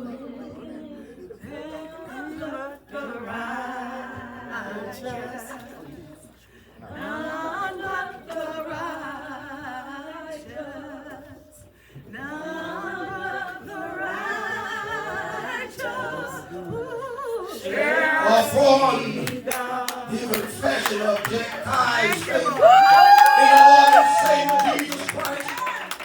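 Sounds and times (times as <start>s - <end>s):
group singing a cappella: 0.0s - 26.0s.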